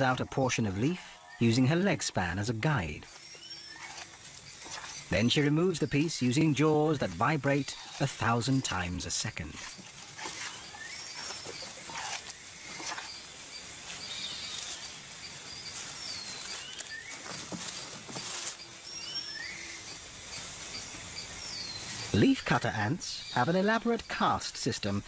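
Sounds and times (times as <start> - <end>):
leaves crackling and rustling: 2.6 - 25.0.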